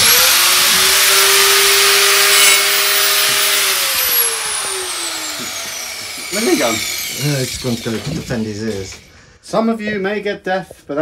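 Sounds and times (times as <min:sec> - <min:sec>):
angle grinder whining: 0:00.0 - 0:09.4.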